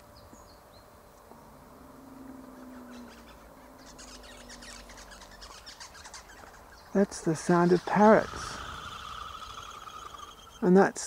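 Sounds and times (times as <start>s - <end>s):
faint low drone: 0.0s - 11.0s
parrots chattering: 2.0s - 10.9s.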